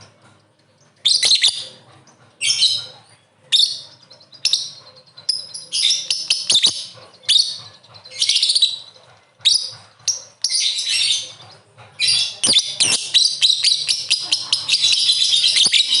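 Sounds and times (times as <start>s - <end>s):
lovebird chattering: 1.0s - 16.0s.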